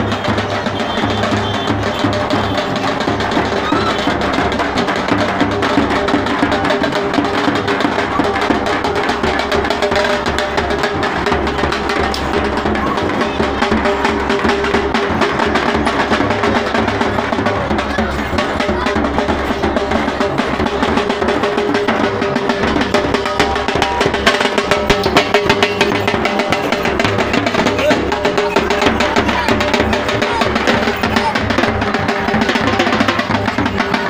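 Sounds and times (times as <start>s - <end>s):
barrel drums beating: 0.0s - 34.0s
crowd chatter: 0.0s - 34.0s.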